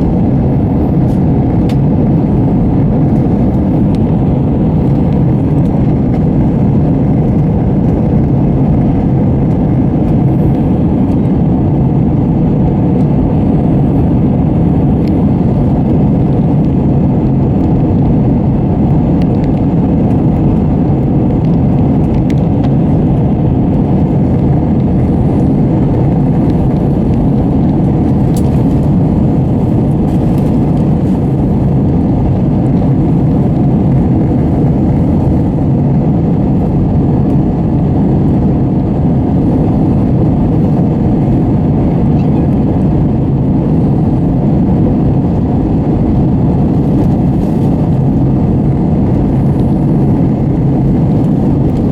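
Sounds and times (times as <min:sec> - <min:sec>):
airliner cabin engine and air noise: 0:00.0 - 0:51.9.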